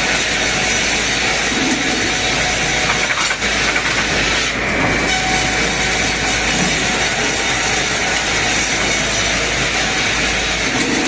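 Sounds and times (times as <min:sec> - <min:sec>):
log sawing machine running: 0:00.0 - 0:11.0.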